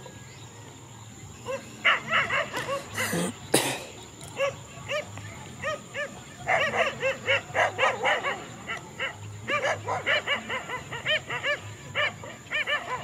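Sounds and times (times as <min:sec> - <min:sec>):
dogs barking: 0:01.4 - 0:13.0.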